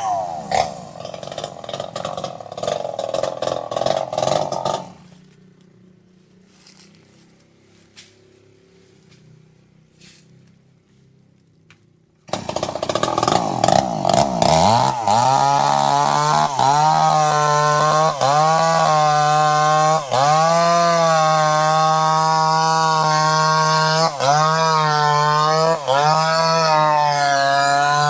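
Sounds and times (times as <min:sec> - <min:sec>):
chainsaw engine running: 0:00.0 - 0:11.0, 0:12.2 - 0:28.0.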